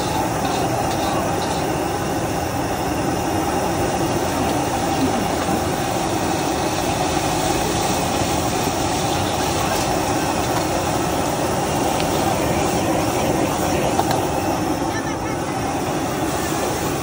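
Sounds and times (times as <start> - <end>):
gas wok burner roaring: 0.0 - 17.0.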